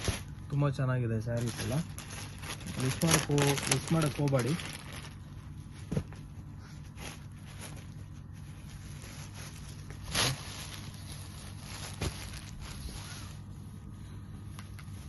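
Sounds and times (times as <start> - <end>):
fabric rustling: 0.0 - 0.6, 1.2 - 15.0.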